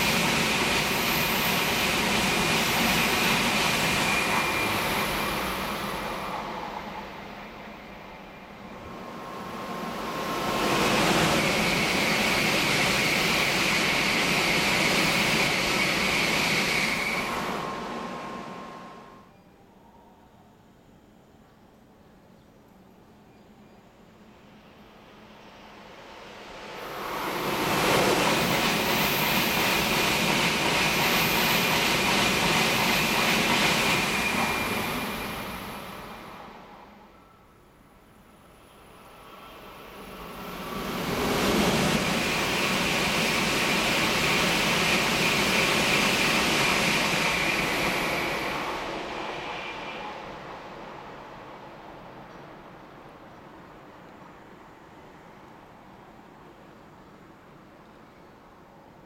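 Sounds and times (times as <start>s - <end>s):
high-speed train rushing past: 0.0s - 22.0s, 23.9s - 59.0s
faint high whine: 0.0s - 29.8s, 32.5s - 59.0s.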